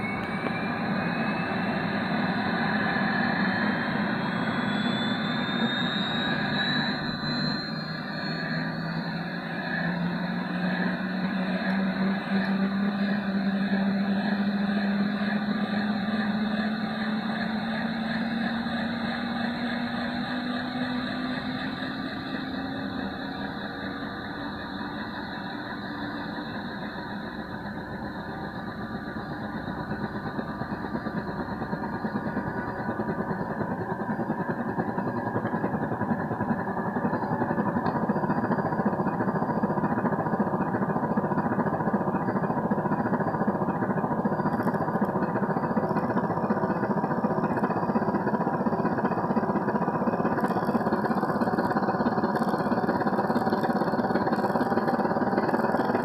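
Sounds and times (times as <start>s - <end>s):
helicopter engine and rotor noise: 0.0s - 56.0s.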